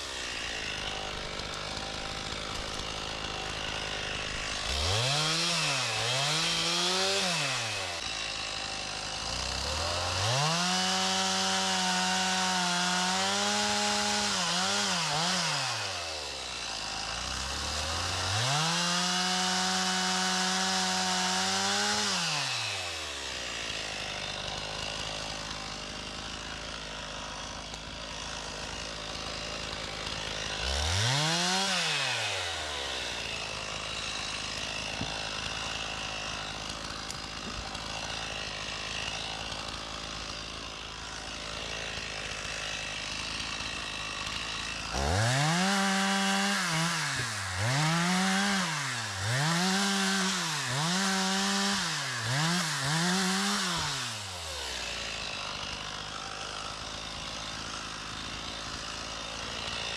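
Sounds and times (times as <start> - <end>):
chainsaw cutting logs: 0.0 - 59.9.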